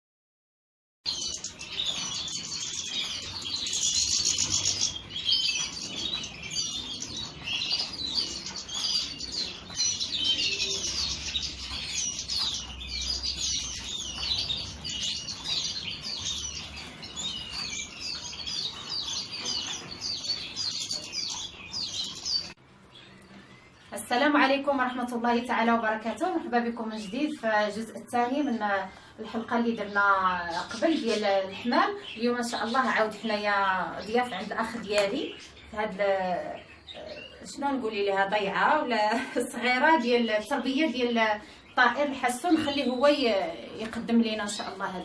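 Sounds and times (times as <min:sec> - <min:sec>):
goldfinches twittering and singing: 0:01.1 - 0:45.0.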